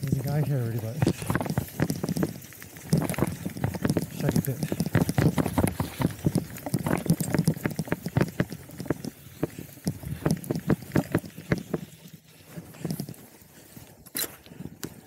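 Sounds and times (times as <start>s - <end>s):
bicycle rattling over dirt trail: 0.0s - 15.0s.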